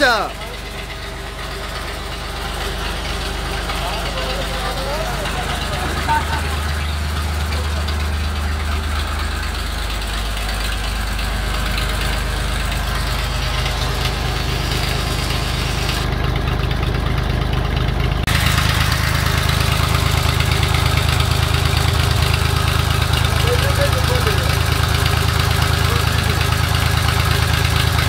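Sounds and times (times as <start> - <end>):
tractor diesel engine idling: 0.0 - 28.0.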